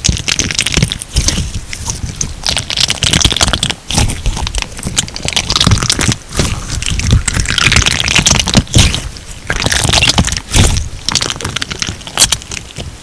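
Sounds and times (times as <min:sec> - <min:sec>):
crunchy slime crackling and popping: 0:00.0 - 0:13.0.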